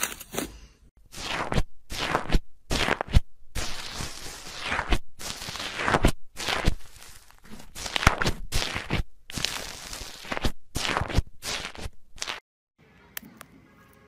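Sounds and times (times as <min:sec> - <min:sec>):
slime squishing and crackling: 0:01.1 - 0:12.4.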